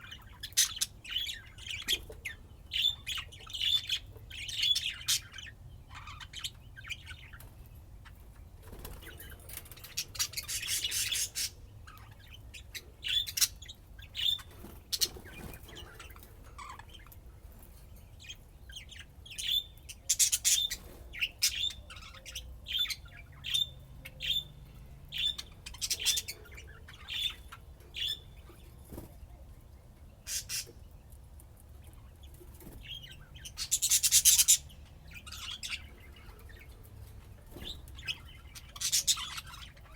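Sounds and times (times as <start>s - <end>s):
budgerigars chirping: 0.0s - 17.3s, 18.2s - 28.6s, 30.2s - 30.9s, 31.9s - 36.8s, 37.4s - 39.9s.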